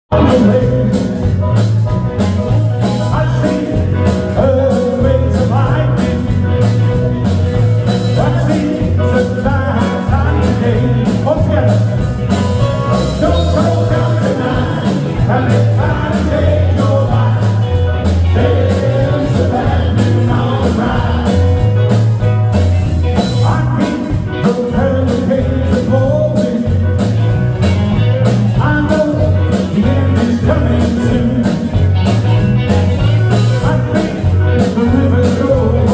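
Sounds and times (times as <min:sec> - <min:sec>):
bass guitar: 0:00.0 - 0:35.9
drums steady beat: 0:00.1 - 0:35.9
electric guitar: 0:00.1 - 0:35.9.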